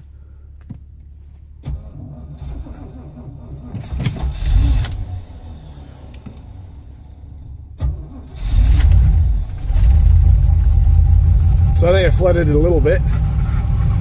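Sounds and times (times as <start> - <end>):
car engine cranking and starting: 1.6 - 14.0.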